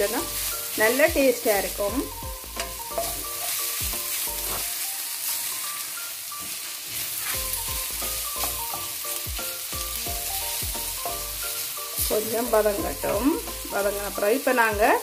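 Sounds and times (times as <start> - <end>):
background music: 0.0 - 15.0
onions sizzling in hot oil: 0.0 - 15.0.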